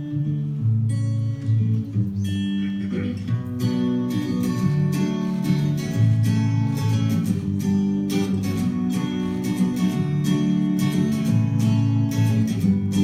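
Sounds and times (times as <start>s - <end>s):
strummed acoustic guitar music: 0.0s - 13.0s.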